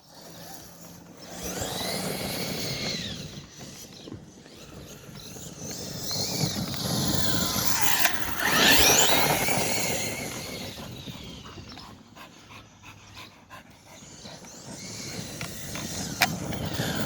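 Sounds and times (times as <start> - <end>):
electric motor whine: 0.0 - 11.9, 13.8 - 17.0
rumble of tyres and drivetrain: 0.0 - 17.0.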